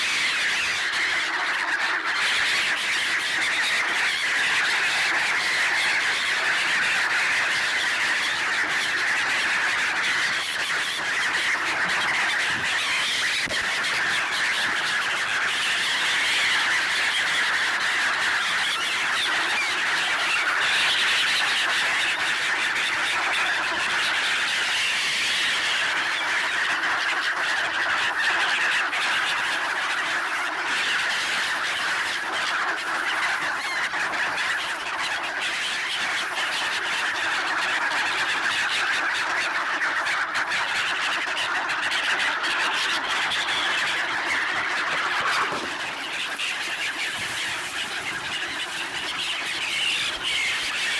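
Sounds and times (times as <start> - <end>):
flock of gulls swans and ducks calling: 0.0 - 50.9.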